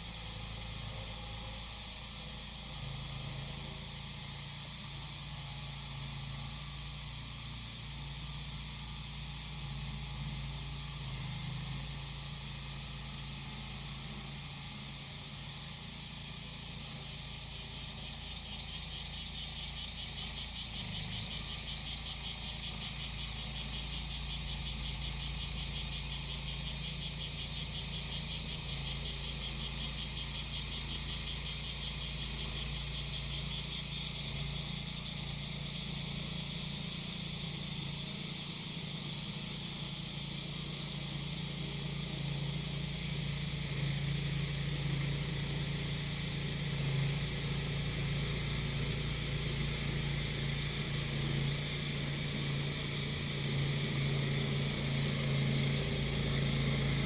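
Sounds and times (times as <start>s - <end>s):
cicadas singing: 0.0s - 57.0s
grass cutter engine hum: 9.6s - 57.0s.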